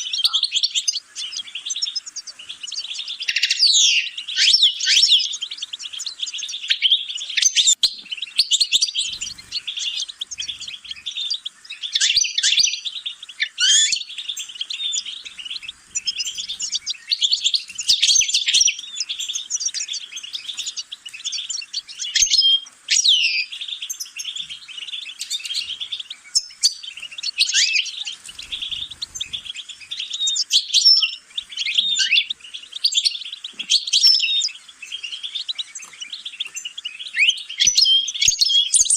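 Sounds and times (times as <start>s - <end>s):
finch twittering song: 0.0s - 38.9s.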